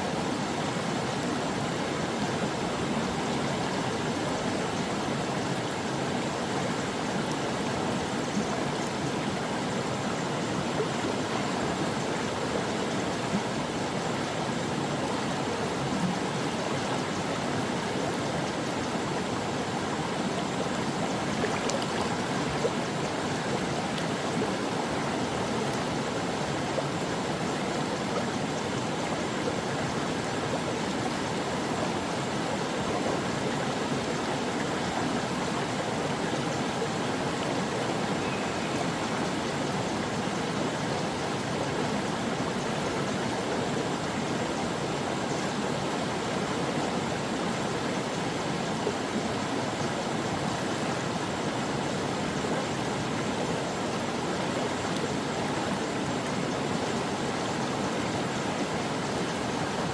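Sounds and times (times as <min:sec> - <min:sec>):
stream flowing over rocks: 0:00.1 - 0:59.9.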